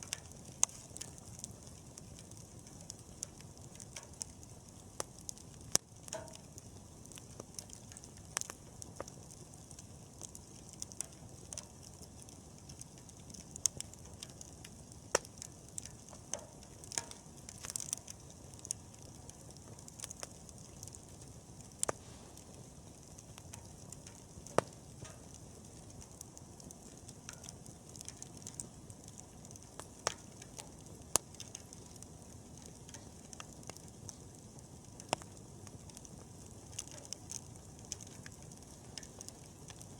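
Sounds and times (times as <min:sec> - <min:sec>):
campfire hissing: 0:00.0 - 0:39.9
fire flaring with hiss: 0:00.0 - 0:39.9
wood crackling and popping: 0:00.0 - 0:39.9.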